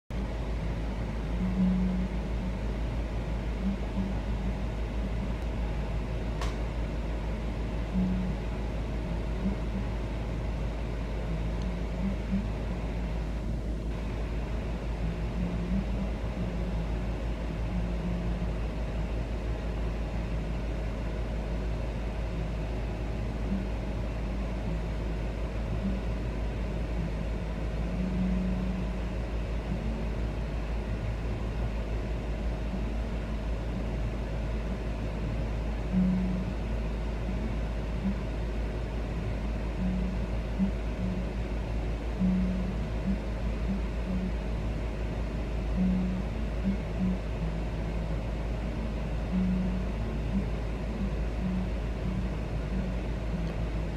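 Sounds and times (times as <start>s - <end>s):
low mechanical rumble: 0.0s - 53.9s
faint hum: 0.1s - 53.9s.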